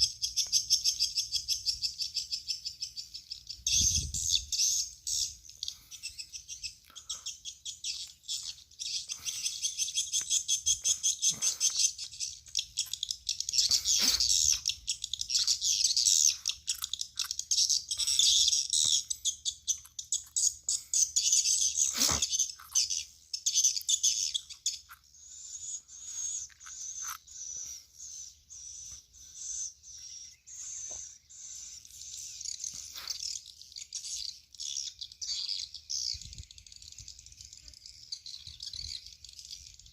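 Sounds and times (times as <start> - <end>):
rapid high bird chirping: 0.0 - 39.9.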